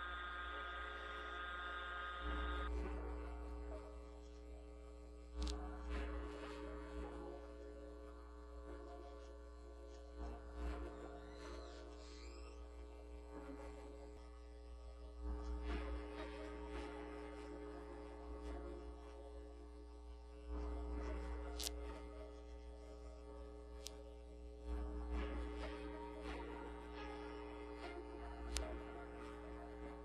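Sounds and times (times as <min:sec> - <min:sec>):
low hum of held tones: 0:00.0 - 0:30.0.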